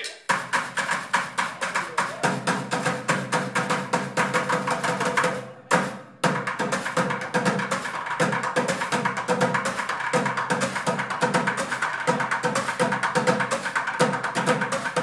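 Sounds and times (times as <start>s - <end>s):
sticks drumming on buckets and cans: 0.0s - 15.0s.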